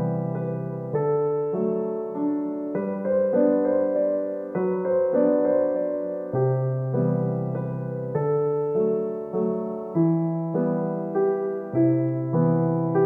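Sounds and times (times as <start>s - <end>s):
slow keyboard chords: 0.0s - 13.0s.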